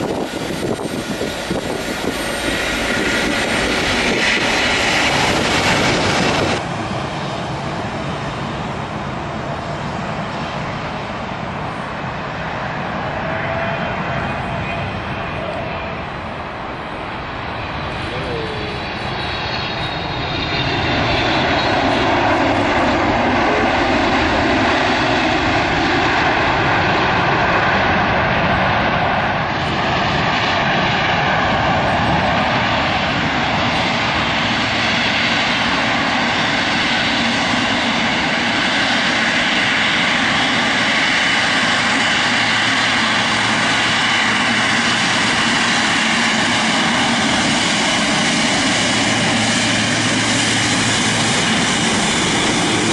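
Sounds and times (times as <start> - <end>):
jet engines roaring with whine: 0.0 - 52.9.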